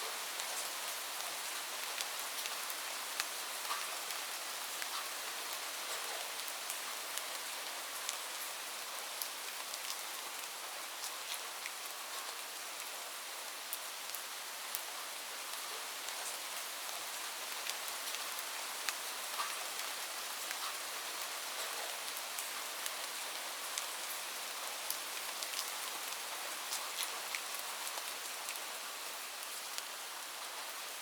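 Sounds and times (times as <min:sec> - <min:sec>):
light rain falling: 0:00.0 - 0:31.0
raindrops ticking on a surface: 0:00.2 - 0:13.0, 0:13.6 - 0:30.5.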